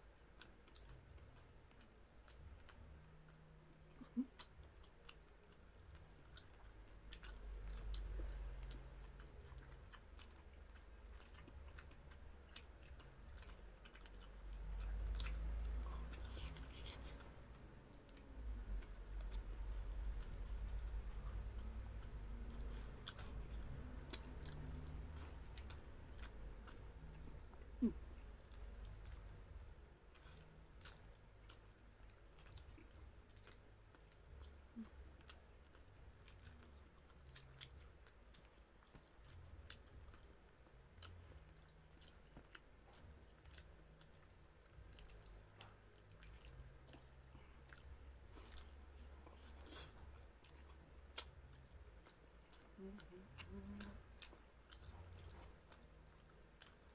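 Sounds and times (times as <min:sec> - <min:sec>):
chewing and mouth sounds: 0:00.0 - 0:56.9.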